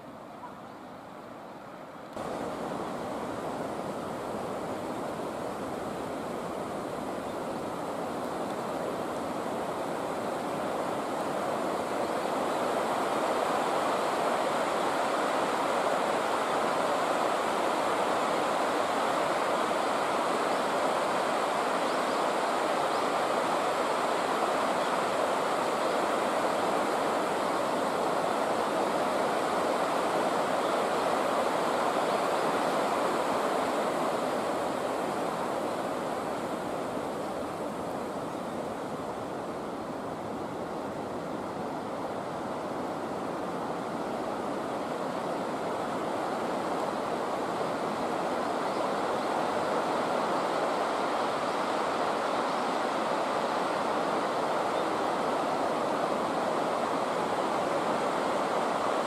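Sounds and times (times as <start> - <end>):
river water rushing over rapids: 0.0 - 59.0.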